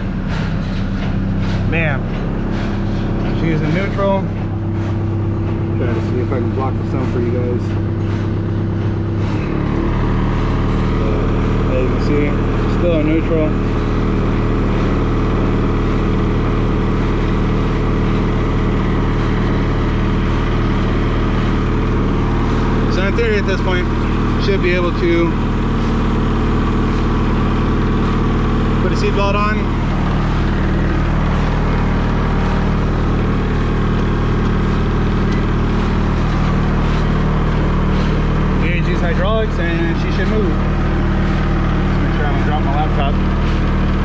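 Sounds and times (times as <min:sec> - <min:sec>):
skid steer engine idling: 0:00.0 - 0:44.0.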